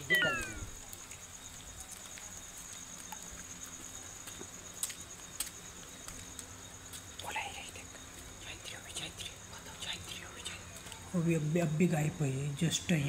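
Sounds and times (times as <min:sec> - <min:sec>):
insect trilling: 0:00.0 - 0:13.0.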